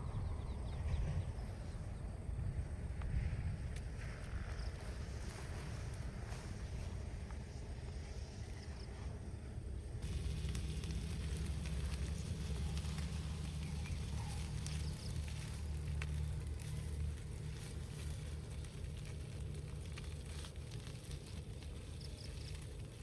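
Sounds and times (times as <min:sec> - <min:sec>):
campfire crackling: 0:02.8 - 0:23.0.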